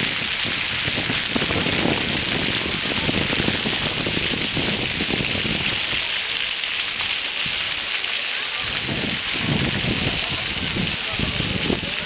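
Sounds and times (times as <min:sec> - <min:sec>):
fountain water splashing on stone: 0:00.0 - 0:12.0.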